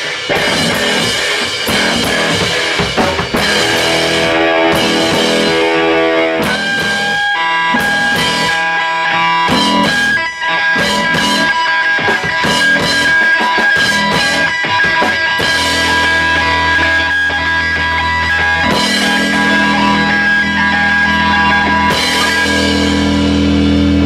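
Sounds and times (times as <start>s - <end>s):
drum kit: 0.0s - 24.0s
electric guitar chords: 0.0s - 24.0s.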